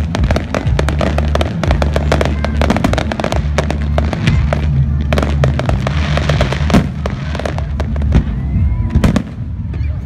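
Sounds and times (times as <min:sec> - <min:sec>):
fireworks bangs and crackling: 0:00.0 - 0:10.0
low rumble: 0:00.0 - 0:10.0.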